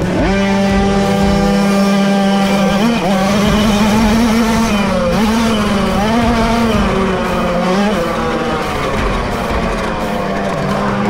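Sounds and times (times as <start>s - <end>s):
moped engine at high revs: 0.0s - 11.0s.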